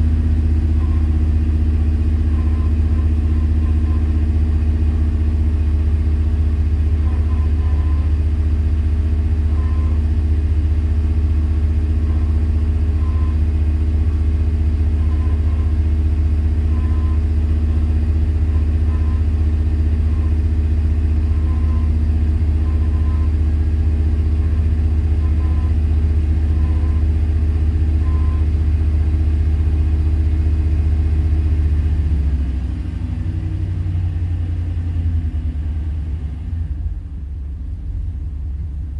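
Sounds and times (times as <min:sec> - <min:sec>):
engine idling rough: 0:00.0 - 0:38.9.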